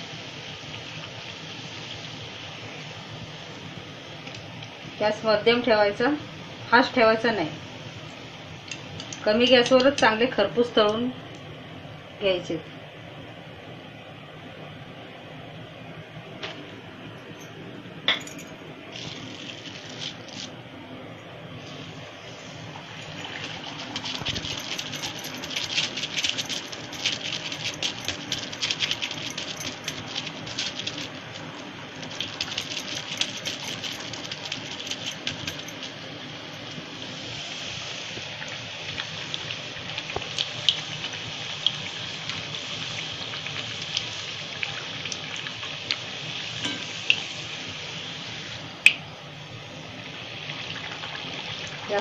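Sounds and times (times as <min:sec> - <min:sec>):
dough sizzling in hot oil: 0:00.0 - 0:11.1, 0:18.8 - 0:20.7, 0:21.5 - 0:52.0.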